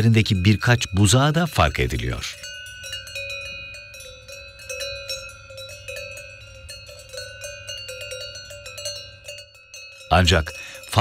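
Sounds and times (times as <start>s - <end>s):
livestock bells clanking: 0.0s - 11.0s.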